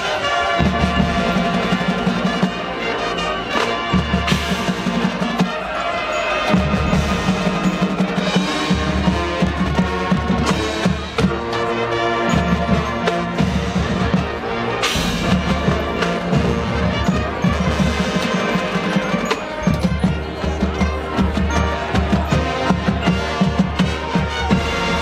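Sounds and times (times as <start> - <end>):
marching band playing: 0.0 - 25.0.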